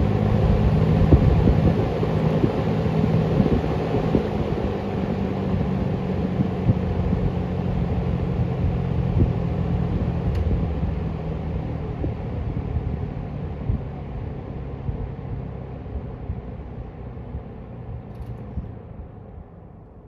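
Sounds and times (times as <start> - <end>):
box fan motor hum: 0.0 - 19.8.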